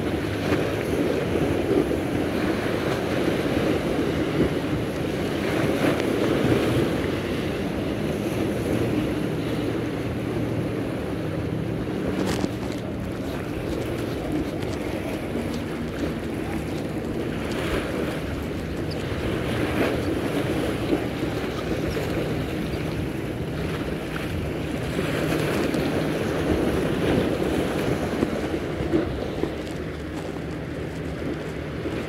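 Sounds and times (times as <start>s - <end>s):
boat motors humming: 0.0s - 32.0s
waves washing against rocks: 0.0s - 32.0s
wind buffeting microphone: 0.0s - 32.0s.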